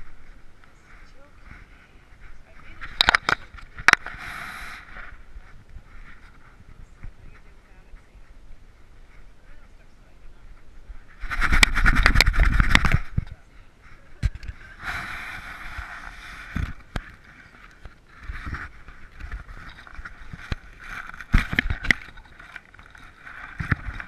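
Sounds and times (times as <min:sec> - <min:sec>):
camera rubbing against dog fur: 0:00.0 - 0:24.0.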